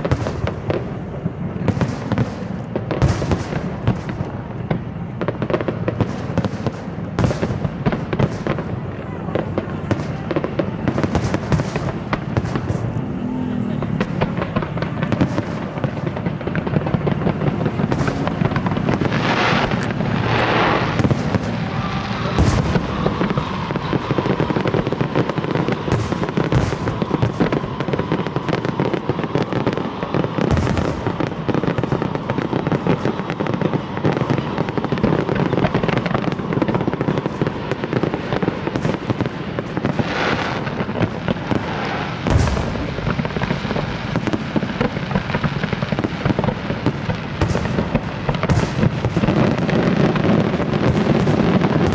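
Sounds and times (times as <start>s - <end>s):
fireworks crackling and popping: 0.0s - 51.9s
fireworks hissing: 0.0s - 51.9s
fireworks sharp bangs: 0.0s - 51.9s.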